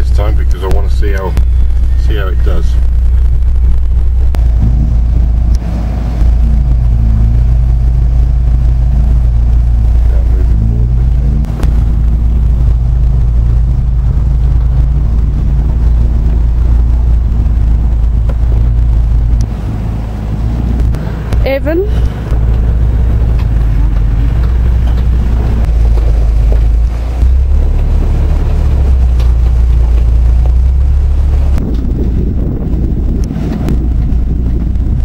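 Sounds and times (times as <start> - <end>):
engine labouring uphill: 0.0 - 35.0.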